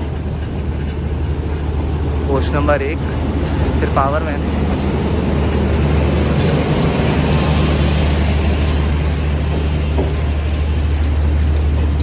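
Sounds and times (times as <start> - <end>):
train coaches rolling past: 0.0 - 12.0.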